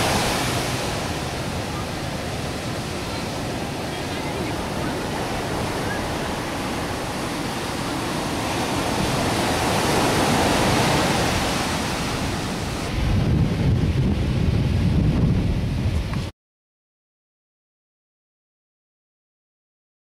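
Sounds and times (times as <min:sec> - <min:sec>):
surf breaking on a beach: 0:00.0 - 0:16.3
wind buffeting the microphone: 0:00.0 - 0:16.3.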